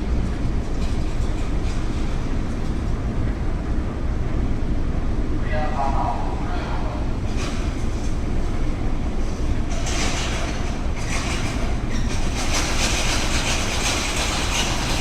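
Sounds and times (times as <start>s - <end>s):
ferry engines rumbling: 0.0s - 15.0s.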